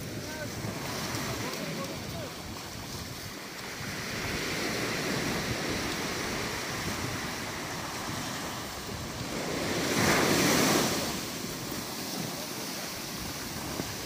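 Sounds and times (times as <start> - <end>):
sea surf washing in: 0.0 - 14.0.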